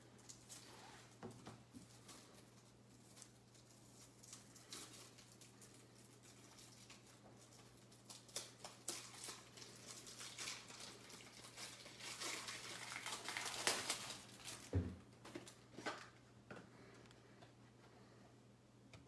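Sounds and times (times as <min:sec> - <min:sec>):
rustling and crinkling: 0:00.0 - 0:18.2
faint electrical hum: 0:00.0 - 0:19.0.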